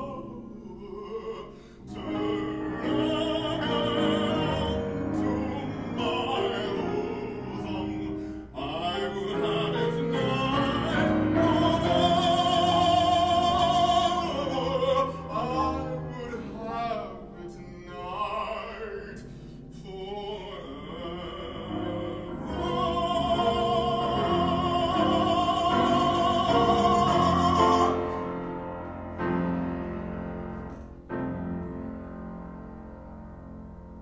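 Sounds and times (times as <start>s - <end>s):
man singing classically: 0.0s - 28.6s
grand piano accompaniment: 0.0s - 34.0s.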